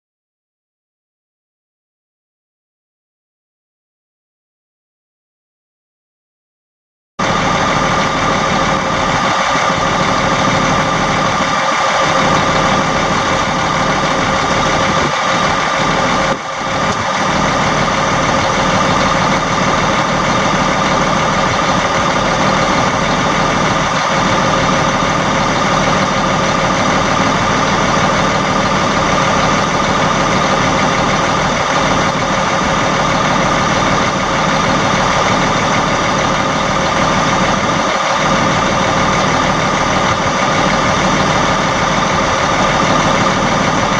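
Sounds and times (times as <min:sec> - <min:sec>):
diesel truck engine idling: 0:07.2 - 0:43.9.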